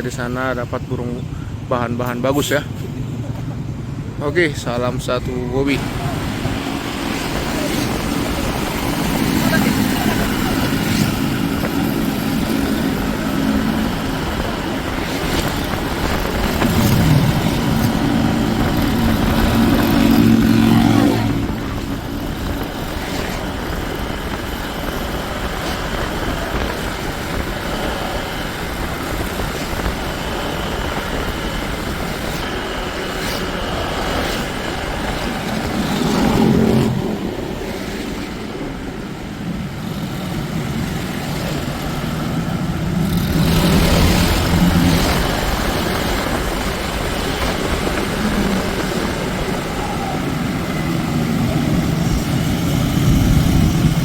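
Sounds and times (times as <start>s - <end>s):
road and wind noise: 0.0s - 54.0s
vehicle engine running: 5.7s - 37.4s, 39.8s - 54.0s.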